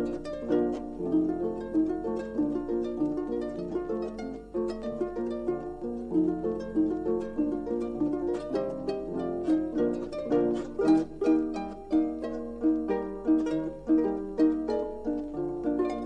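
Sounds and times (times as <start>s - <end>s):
harp playing folk tune: 0.0s - 16.0s.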